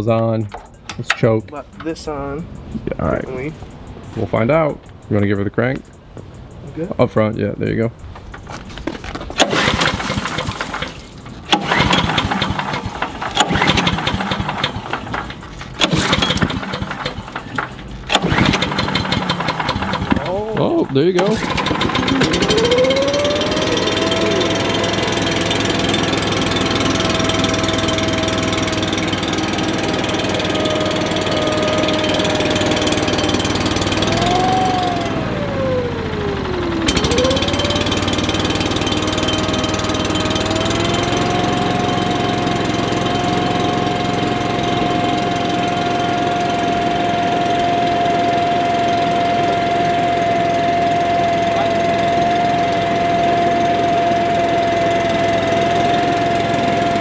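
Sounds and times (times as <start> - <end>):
leaf blower engine running: 9.4 - 57.0.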